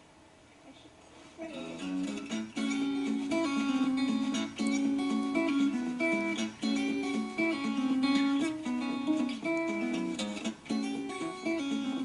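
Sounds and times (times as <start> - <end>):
acoustic guitar plucking: 1.4 - 12.0.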